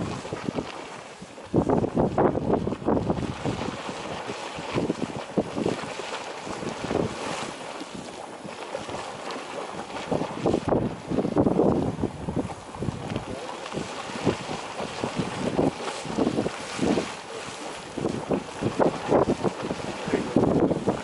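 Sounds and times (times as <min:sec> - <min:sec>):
geyser water splashing: 0:00.0 - 0:21.0
wind buffeting microphone: 0:00.0 - 0:21.0.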